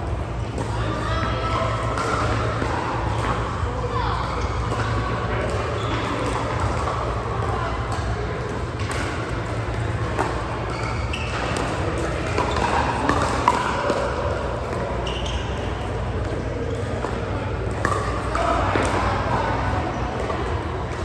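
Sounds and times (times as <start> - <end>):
background chatter: 0.0 - 21.0.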